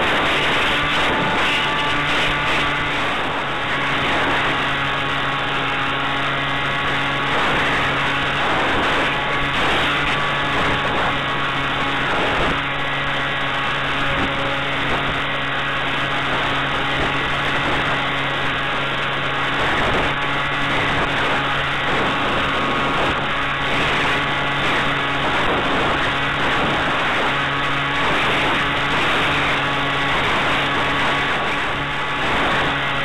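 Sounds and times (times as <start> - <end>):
constant low hum: 0.0 - 33.0
wind rushing over microphone: 0.0 - 33.0.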